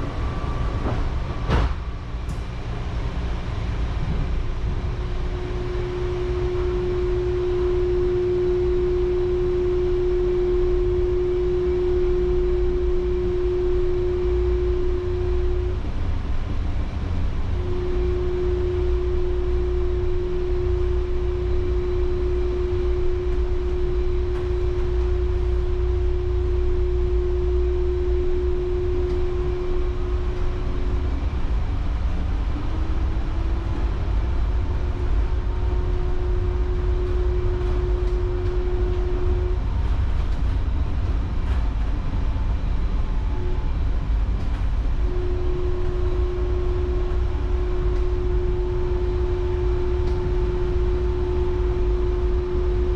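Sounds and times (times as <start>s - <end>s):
humming drive tone: 0.0s - 52.9s
train running low rumble: 0.0s - 52.9s.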